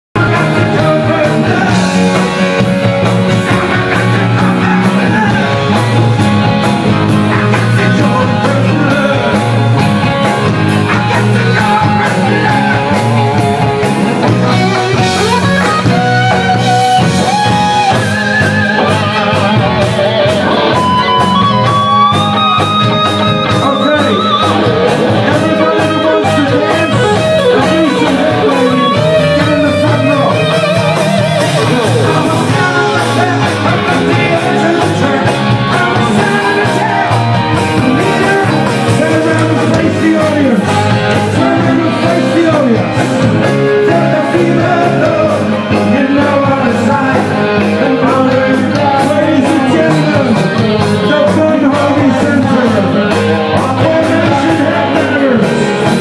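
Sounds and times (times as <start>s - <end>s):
drums: 0.1s - 56.0s
electric guitar: 0.2s - 56.0s
keyboard: 0.2s - 56.0s
person singing into microphone: 0.2s - 56.0s.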